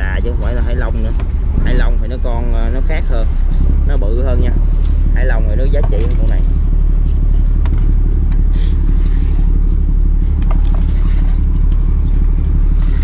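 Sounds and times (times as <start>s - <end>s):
boat diesel engine droning: 0.0s - 13.0s.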